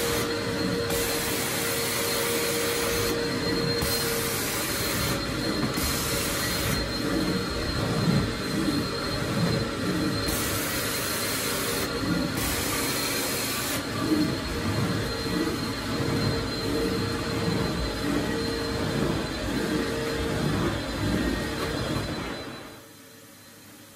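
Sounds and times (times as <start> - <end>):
vacuum motors whining: 0.0 - 23.0.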